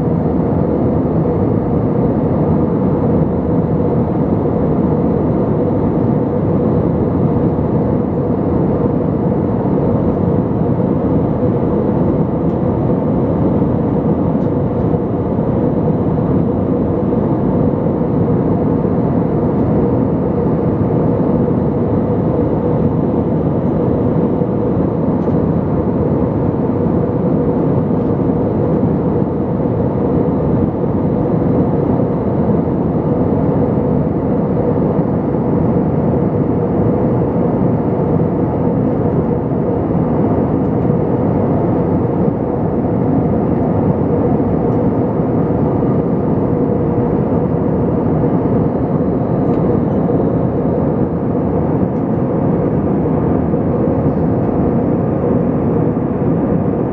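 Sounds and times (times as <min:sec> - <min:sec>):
jet engines roaring: 0:00.0 - 0:56.9.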